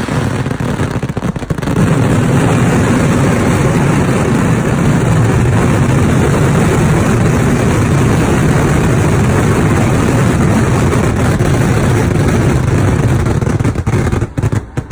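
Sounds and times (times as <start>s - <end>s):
fireworks barrage: 0.0s - 14.9s.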